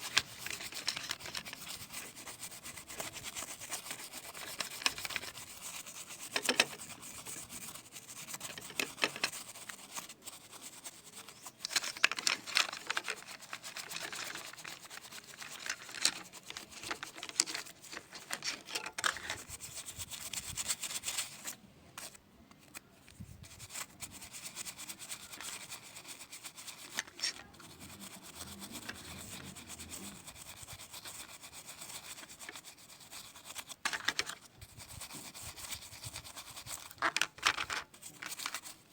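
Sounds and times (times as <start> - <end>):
rubbing and scraping on phone: 0.0 - 38.9.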